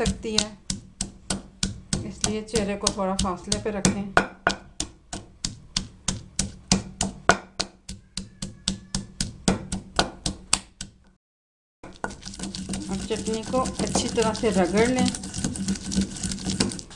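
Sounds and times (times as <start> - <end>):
pestle pounding in stone mortar: 0.0 - 11.0, 11.8 - 16.9.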